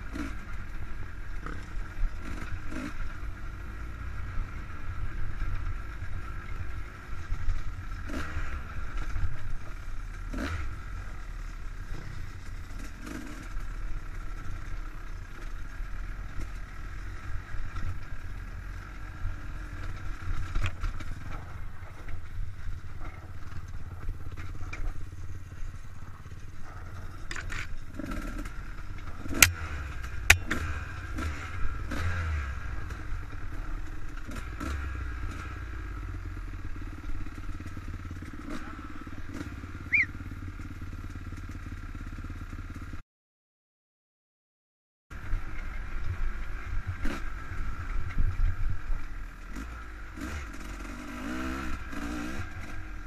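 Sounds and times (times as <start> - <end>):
dirt bike engine running: 0.0 - 43.0, 45.1 - 53.0.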